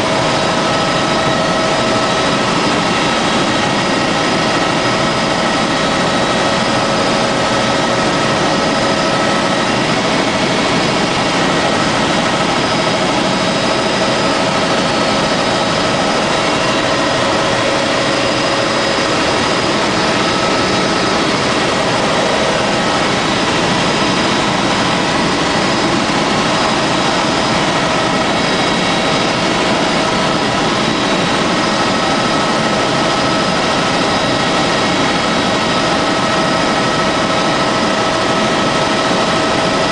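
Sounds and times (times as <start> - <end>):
constant whine: 0.0 - 39.9
helicopter engine and rotor drone: 0.0 - 39.9.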